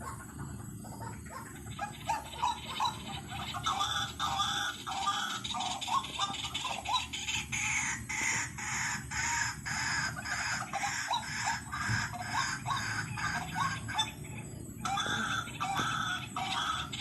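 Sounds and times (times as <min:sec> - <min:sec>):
waterhen calling harsh notes: 0:01.7 - 0:17.0.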